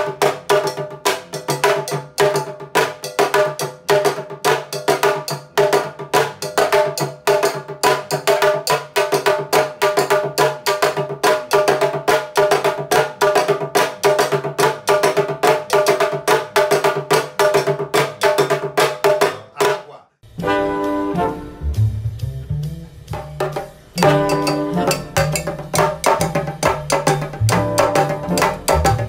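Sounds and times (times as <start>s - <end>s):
drum struck with sticks: 0.0s - 20.9s, 21.6s - 29.0s.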